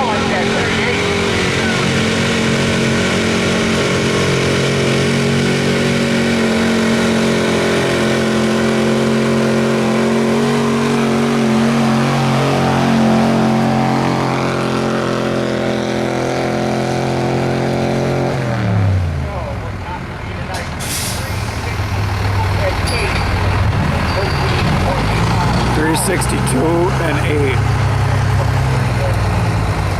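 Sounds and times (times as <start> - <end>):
truck engine at high revs: 0.0 - 29.9.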